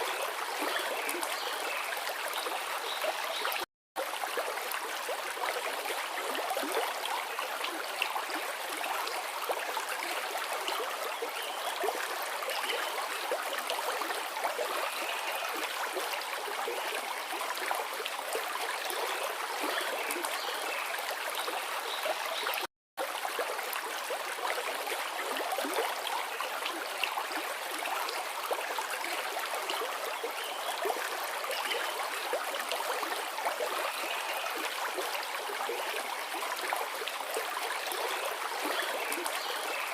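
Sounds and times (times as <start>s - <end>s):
river water rushing and babbling: 0.0s - 39.9s.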